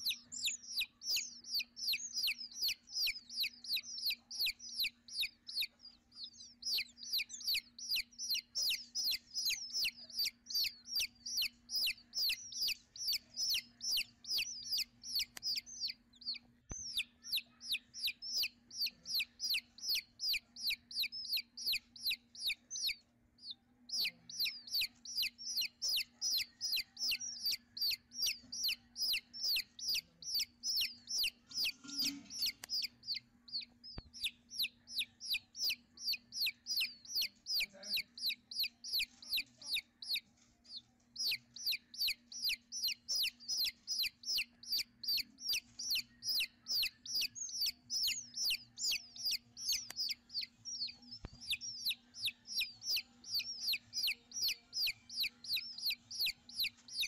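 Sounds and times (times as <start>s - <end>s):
nestlings begging calls: 0.0s - 57.0s.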